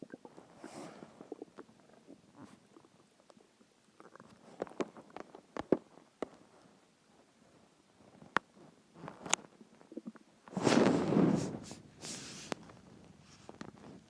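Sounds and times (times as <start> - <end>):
stomach gurgling: 0.0 - 6.5, 8.0 - 14.0.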